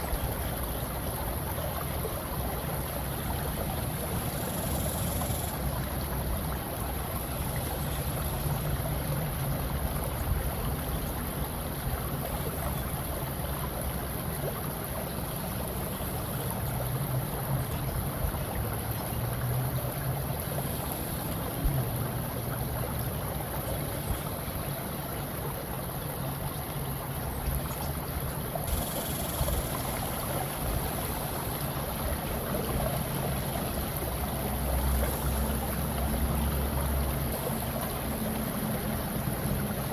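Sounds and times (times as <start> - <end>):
rushing water with high hiss: 0.0 - 39.9.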